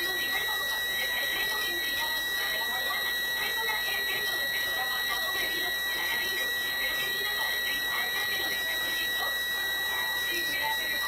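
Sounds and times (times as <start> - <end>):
high-pitched electronic alarm tone: 0.0 - 11.0.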